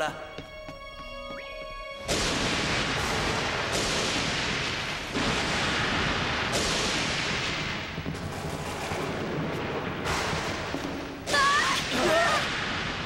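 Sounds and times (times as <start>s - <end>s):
thunderclap: 2.1s - 13.0s.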